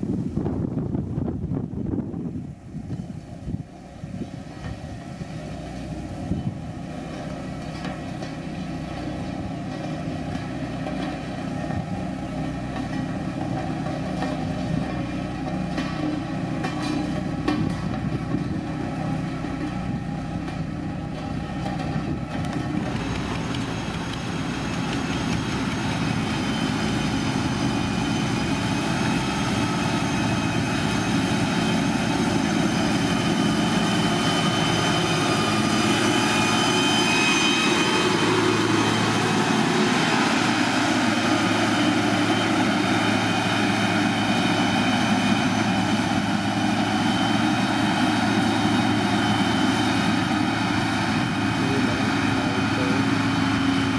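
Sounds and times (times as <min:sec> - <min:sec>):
diesel engine running: 0:00.0 - 0:53.9
high whine: 0:00.0 - 0:53.9.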